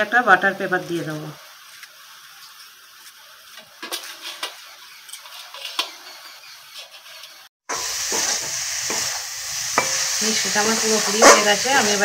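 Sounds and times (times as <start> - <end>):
food sizzling in a wok: 0.0 - 12.0
spatula scraping in a wok: 0.6 - 12.0.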